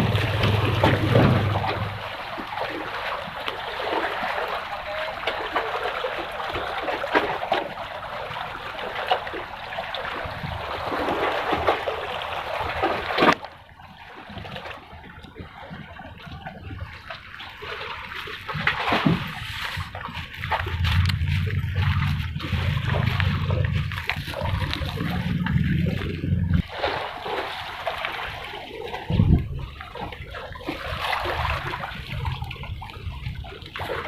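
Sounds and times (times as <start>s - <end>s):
water splashing and trickling: 0.0s - 34.0s.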